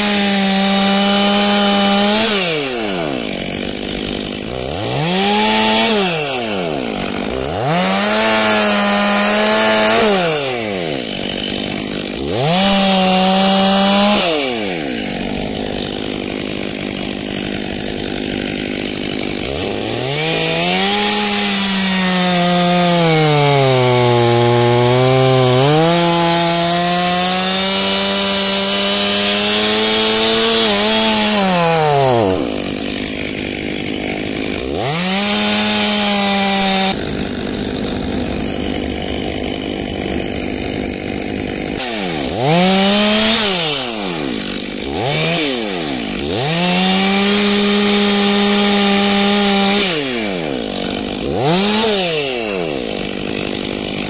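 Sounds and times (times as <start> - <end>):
chainsaw cutting log: 0.0 - 54.0
chainsaw revving: 0.0 - 54.0.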